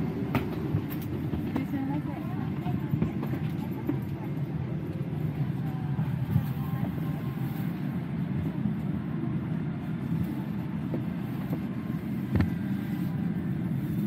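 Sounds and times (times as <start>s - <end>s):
cabin air system rumble: 0.0s - 14.0s.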